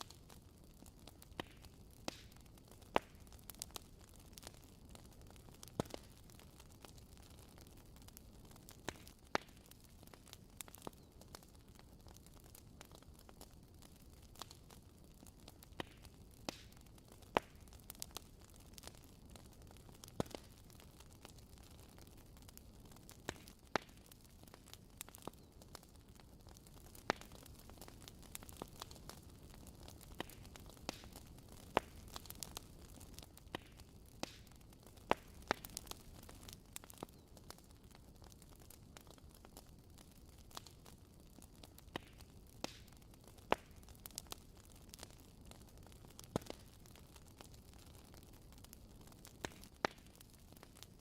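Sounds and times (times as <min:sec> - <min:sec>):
fire popping and snapping: 0:00.0 - 0:51.0
wood fire crackling: 0:00.0 - 0:51.0.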